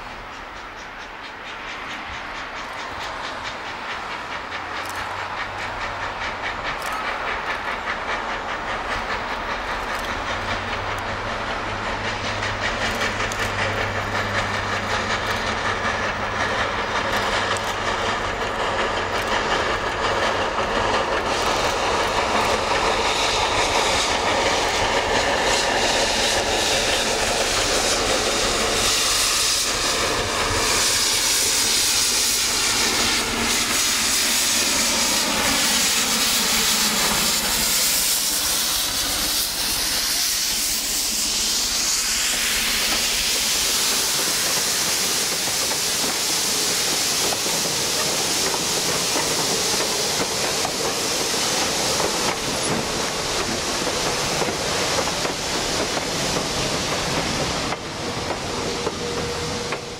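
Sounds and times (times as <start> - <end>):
steam hissing from cylinder cocks: 0.0 - 59.9
steam locomotive exhaust and running gear: 0.0 - 59.9.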